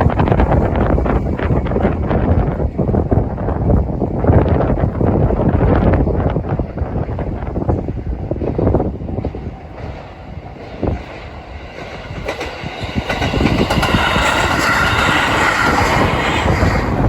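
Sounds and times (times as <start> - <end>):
train running noise: 0.0 - 17.0
train wheel clatter: 0.0 - 17.0
wind buffeting microphone: 0.0 - 17.0.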